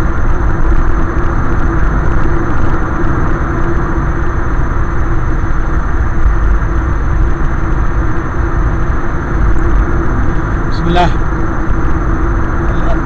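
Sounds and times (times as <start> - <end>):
car road and engine rumble: 0.0 - 13.0
steady hum: 0.0 - 13.0.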